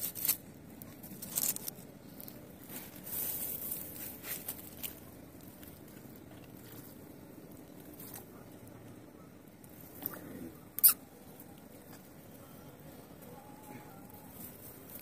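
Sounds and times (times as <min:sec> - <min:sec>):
soft handling rustling: 0:00.0 - 0:09.0, 0:11.5 - 0:15.0.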